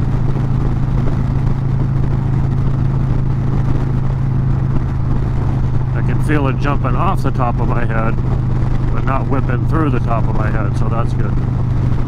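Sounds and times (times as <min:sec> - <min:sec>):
motorcycle engine cruising: 0:00.0 - 0:12.0
road noise: 0:00.0 - 0:12.0
wind noise: 0:00.0 - 0:12.0.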